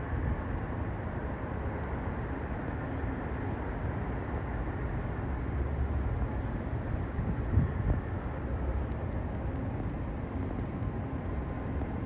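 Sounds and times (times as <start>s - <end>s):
city background rumble: 0.0s - 12.0s.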